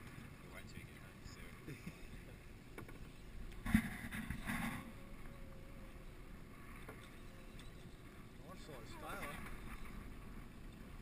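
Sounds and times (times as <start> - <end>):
water around a boat: 0.0 - 11.0
wind: 0.0 - 11.0.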